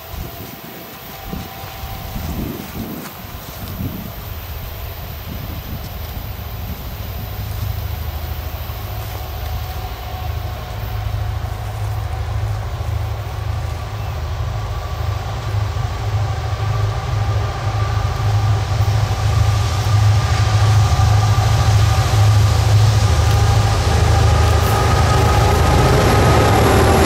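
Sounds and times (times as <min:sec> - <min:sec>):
diesel freight train rumbling: 0:00.0 - 0:27.0
faint steady whine: 0:00.0 - 0:27.0.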